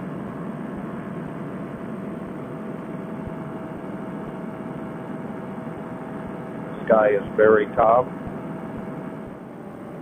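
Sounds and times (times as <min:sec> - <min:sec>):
faint steady tone: 0:00.0 - 0:10.0
paramotor engine drone: 0:00.0 - 0:10.0.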